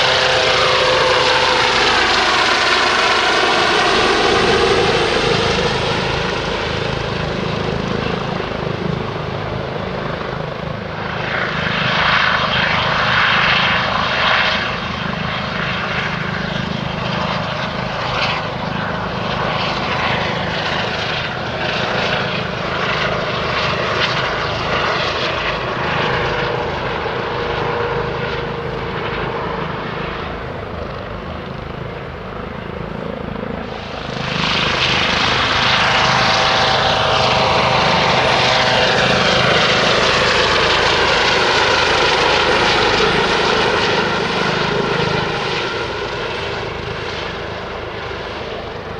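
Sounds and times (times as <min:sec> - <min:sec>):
helicopter hovering close by: 0:00.0 - 0:48.9
helicopter turbine whine and rotor: 0:00.0 - 0:48.9.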